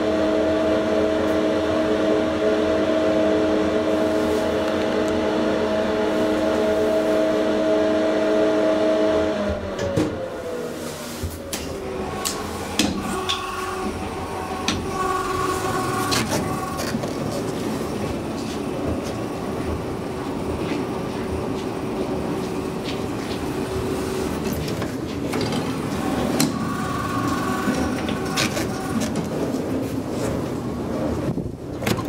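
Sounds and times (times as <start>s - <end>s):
train rumble and hum: 0.0s - 32.0s.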